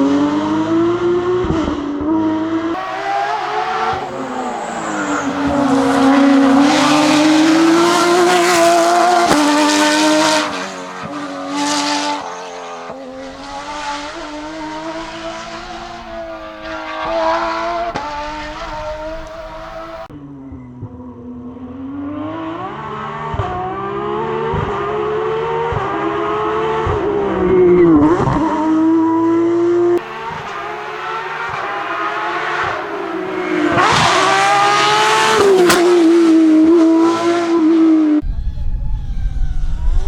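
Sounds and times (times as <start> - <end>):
racing engine at high revs: 0.0 - 38.2.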